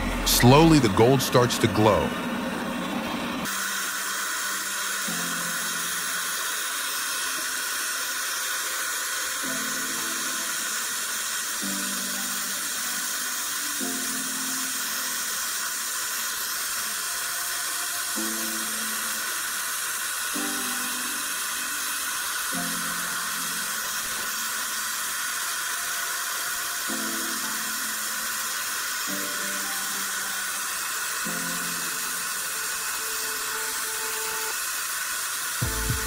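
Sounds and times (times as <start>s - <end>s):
gas torch flame hissing: 0.0s - 36.0s
soft ambient music: 3.4s - 8.3s, 9.1s - 34.8s, 35.6s - 36.0s.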